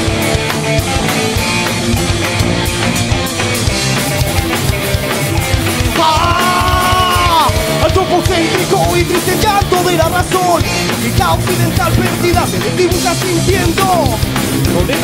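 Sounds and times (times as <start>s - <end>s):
drum kit: 0.0s - 15.0s
live rock band playing: 0.0s - 15.0s.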